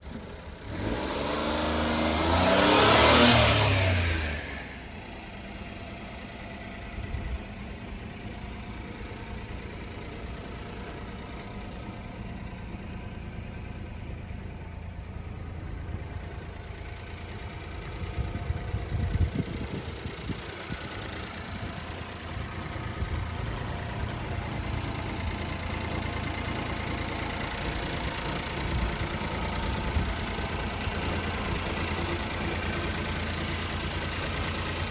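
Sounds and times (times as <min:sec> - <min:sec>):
truck engine starting and idling: 0:00.0 - 0:34.9.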